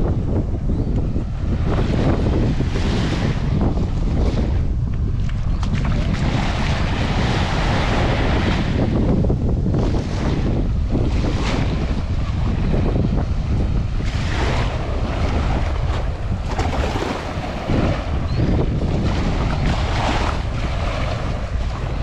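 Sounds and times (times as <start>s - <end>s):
wind buffeting microphone: 0.0s - 22.0s
waves breaking on shore: 1.3s - 22.0s.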